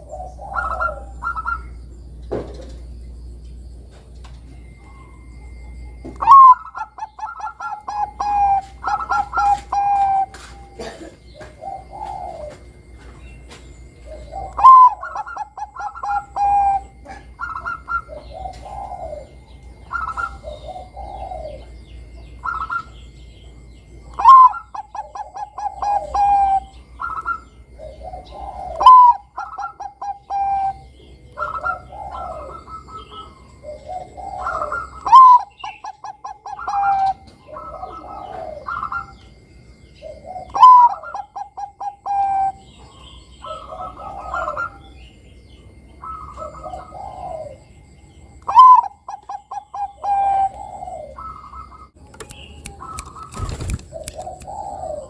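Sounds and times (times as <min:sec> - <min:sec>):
dove cooing: 0:00.0 - 0:02.9, 0:04.5 - 0:55.0.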